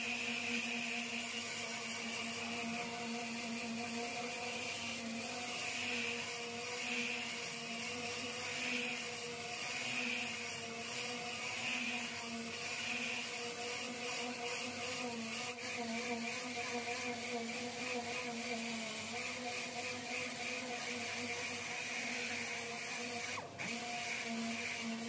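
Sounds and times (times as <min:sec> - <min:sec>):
orbital sander motor hum: 0:00.0 - 0:25.0.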